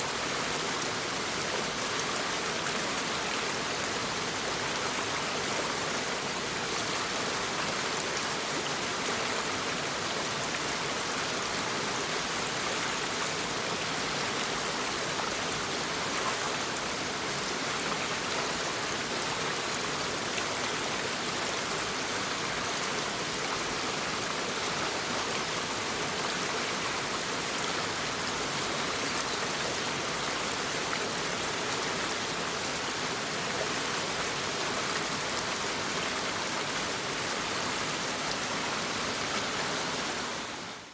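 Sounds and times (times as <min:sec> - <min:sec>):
brook babbling over stones: 0:00.0 - 0:40.9.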